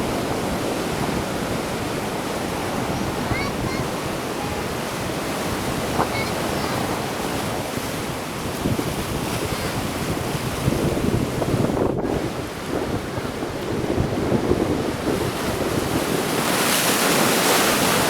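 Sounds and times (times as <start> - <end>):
sea waves washing onto shore: 0.0 - 18.0
wind buffeting microphone: 0.0 - 18.0.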